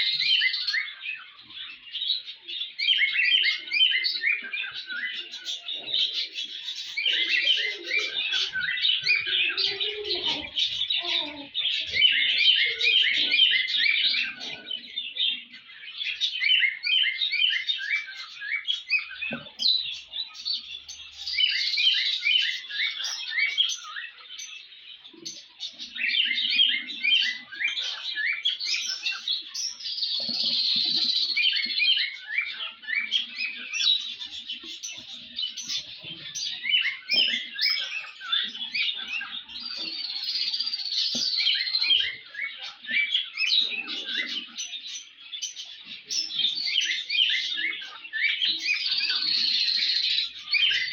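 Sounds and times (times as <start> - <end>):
birds chirping rapidly: 0.0 - 50.9.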